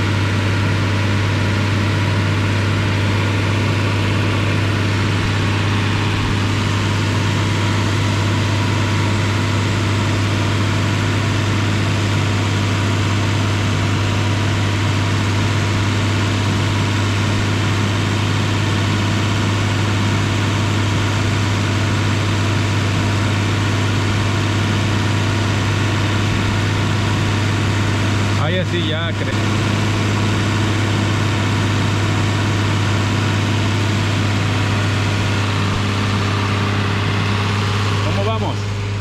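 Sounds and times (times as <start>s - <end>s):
pickup truck engine running: 0.0s - 39.0s.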